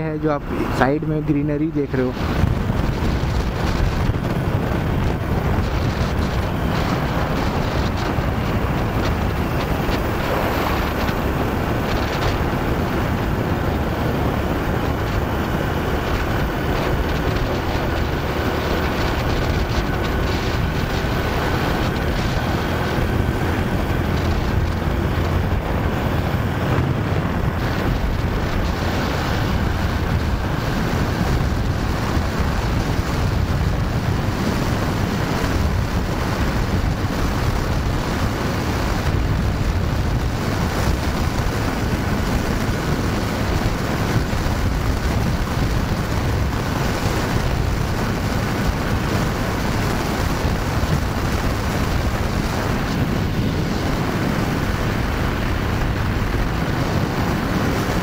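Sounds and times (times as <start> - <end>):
motorcycle engine: 0.0 - 58.0
wind rushing over microphone: 0.0 - 58.0.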